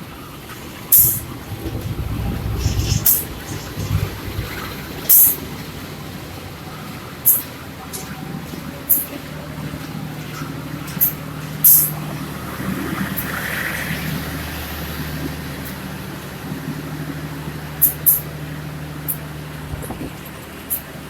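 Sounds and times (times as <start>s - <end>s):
train running with low hum: 0.0s - 21.0s.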